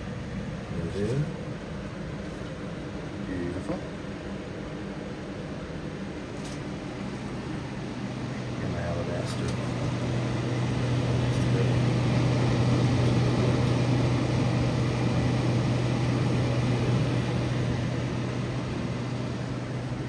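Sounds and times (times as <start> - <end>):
fan humming and blowing air: 0.0 - 20.0.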